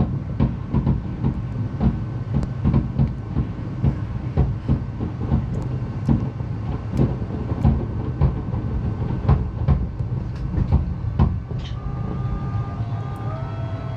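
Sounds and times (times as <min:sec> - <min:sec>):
fireworks booms and bangs: 0:00.0 - 0:11.6
continuous low rumble: 0:00.0 - 0:13.9.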